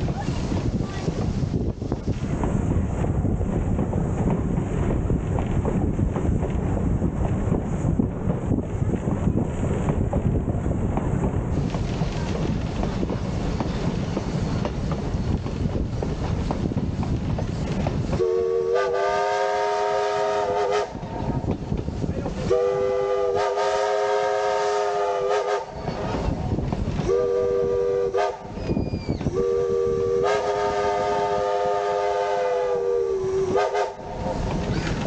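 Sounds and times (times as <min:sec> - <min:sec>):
locomotive running noise: 0:00.0 - 0:35.0.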